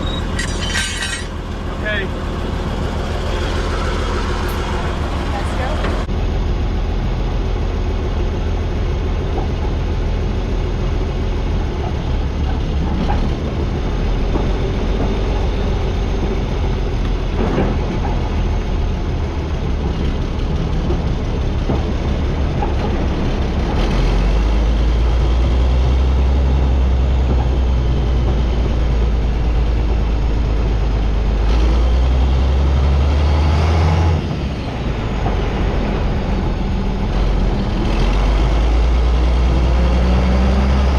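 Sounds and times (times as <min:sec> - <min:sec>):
tractor engine droning: 0:00.0 - 0:40.9.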